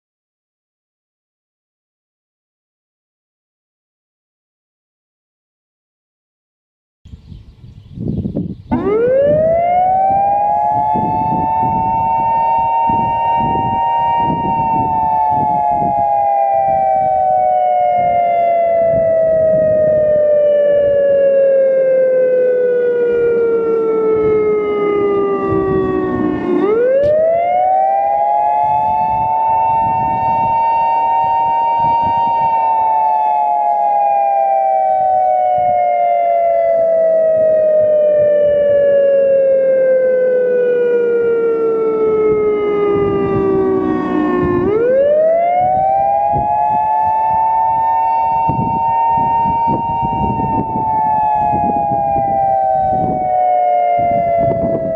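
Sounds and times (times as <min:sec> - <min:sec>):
warning siren rising and falling: 0:08.7 - 0:54.9.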